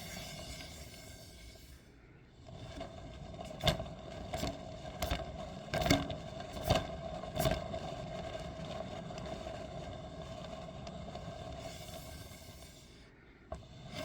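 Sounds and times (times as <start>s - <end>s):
ceiling fan hum: 0.0s - 14.0s.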